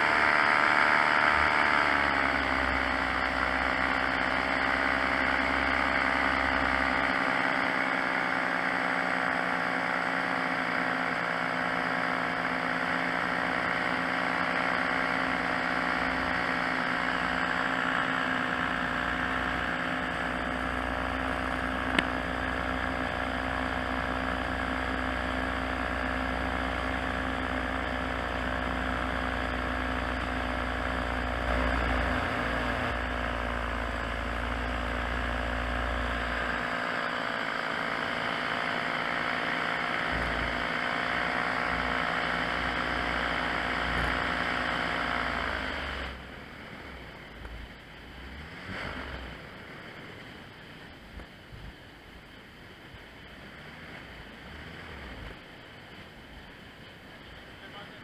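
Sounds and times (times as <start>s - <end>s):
paramotor engine running: 0.0s - 51.8s.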